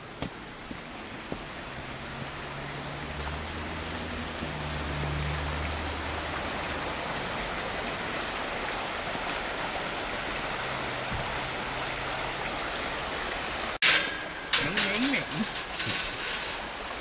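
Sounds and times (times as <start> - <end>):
stream running over stones: 0.0 - 17.0.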